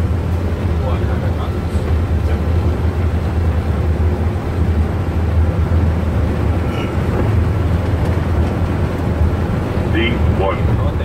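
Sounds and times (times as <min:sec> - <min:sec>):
low rumble of jet engines: 0:00.0 - 0:11.0.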